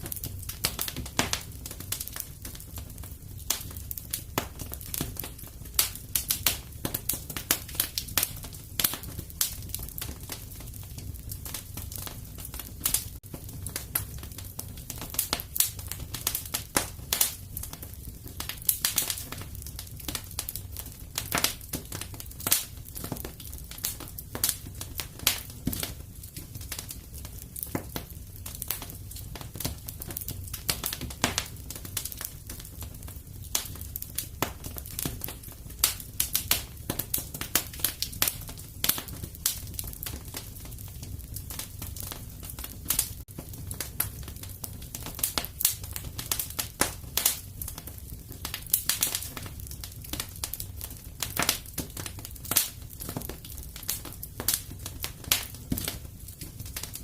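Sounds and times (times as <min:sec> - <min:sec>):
fire crackling and popping: 0:00.0 - 0:57.0
fire flames rumbling: 0:00.0 - 0:57.0.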